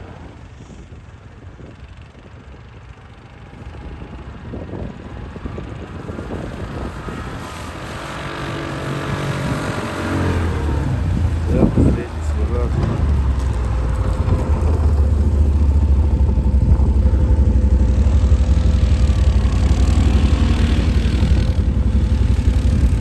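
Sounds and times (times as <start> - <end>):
quad bike engine running: 0.3 - 23.0.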